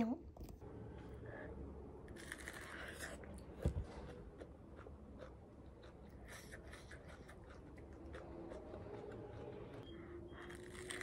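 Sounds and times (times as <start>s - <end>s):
corn crunching being chewed: 2.2s - 11.0s.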